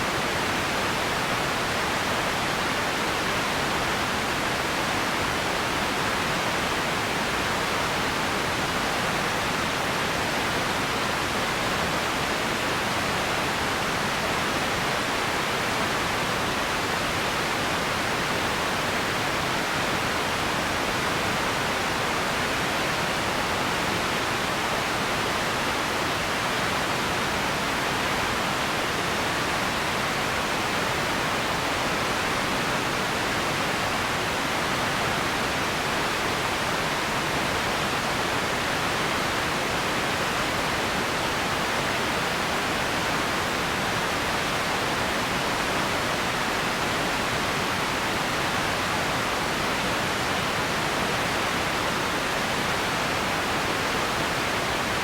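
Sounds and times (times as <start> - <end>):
steady room hiss: 0.0 - 55.0.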